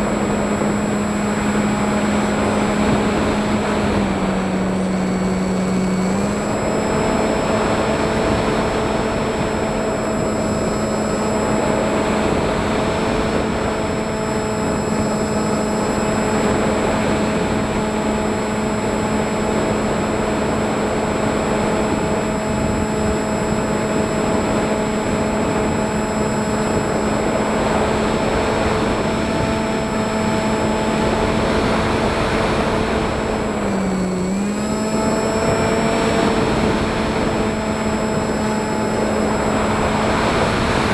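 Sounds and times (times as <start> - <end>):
drone propellers whining: 0.0 - 40.9
rushing wind: 0.0 - 40.9.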